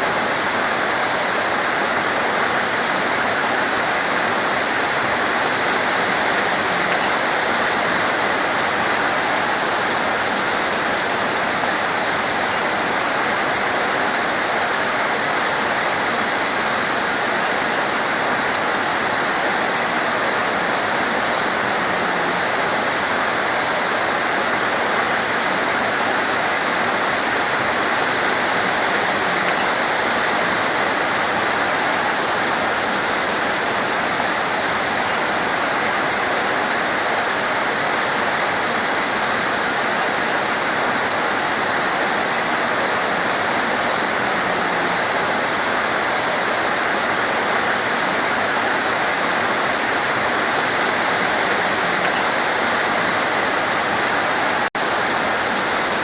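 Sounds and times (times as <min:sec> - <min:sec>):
torrential rain hissing: 0:00.0 - 0:56.0.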